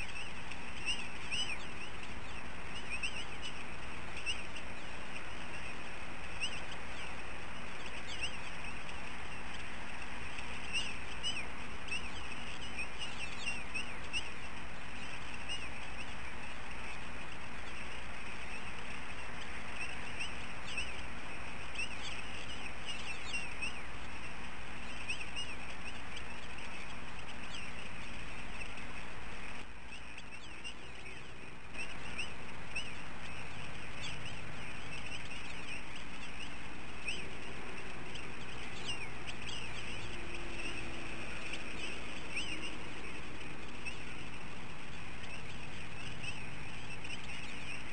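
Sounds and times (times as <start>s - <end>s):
birds chirping: 0.0s - 47.9s
steady hiss: 0.0s - 47.9s.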